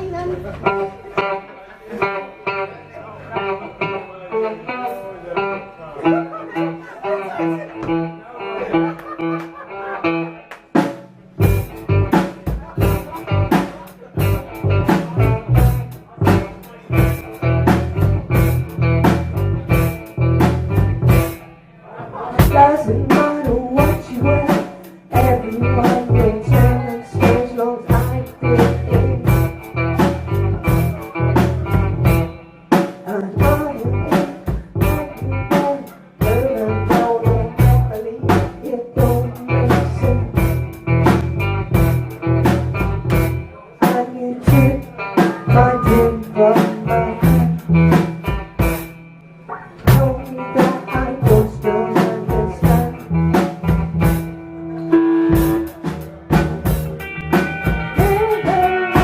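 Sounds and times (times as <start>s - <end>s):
bass guitar: 0.0s - 59.0s
electric guitar: 0.0s - 59.0s
drum kit beat: 8.9s - 21.4s, 22.4s - 59.0s.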